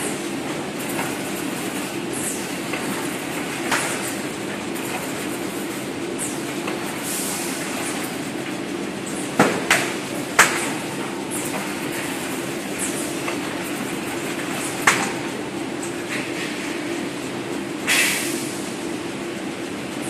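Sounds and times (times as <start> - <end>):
conveyor machinery noise: 0.0 - 20.0.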